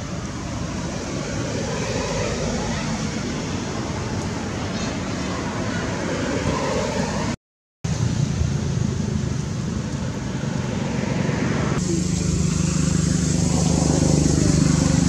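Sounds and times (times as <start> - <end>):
low engine hum: 0.0 - 15.0
outdoor background noise: 0.0 - 15.0.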